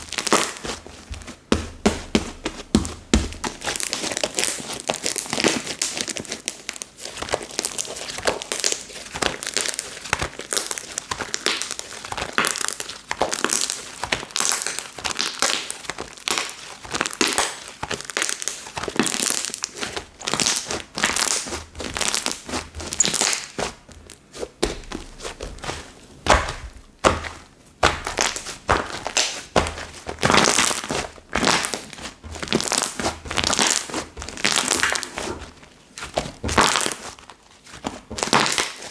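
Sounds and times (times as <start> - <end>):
slime crackling and popping: 0.0 - 0.8, 2.0 - 25.6, 26.3 - 37.3, 38.0 - 38.9.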